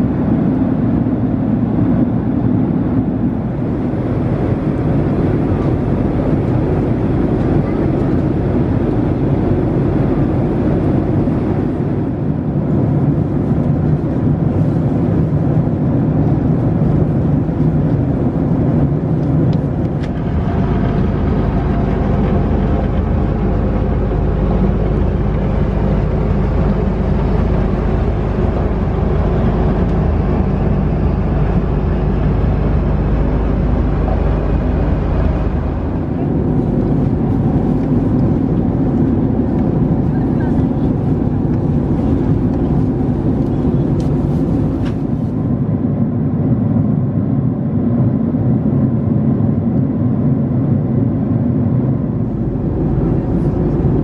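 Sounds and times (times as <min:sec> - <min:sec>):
airplane cabin airflow rush: 0:00.0 - 0:54.0
low engine drone: 0:00.0 - 0:54.0.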